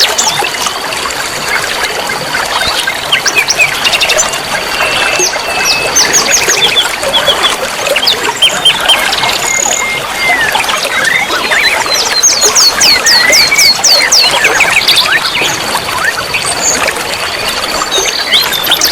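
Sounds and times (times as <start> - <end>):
songbirds chirping and twittering: 0.0 - 18.9
trickling water: 0.0 - 18.9.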